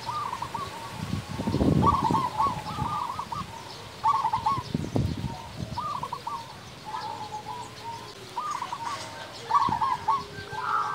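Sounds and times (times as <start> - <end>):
dove cooing: 0.0 - 10.9.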